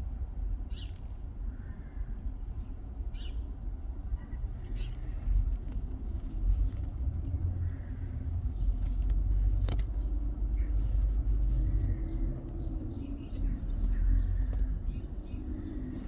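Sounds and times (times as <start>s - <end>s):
faint birdsong: 0.0s - 16.0s
low rumble: 1.3s - 16.0s.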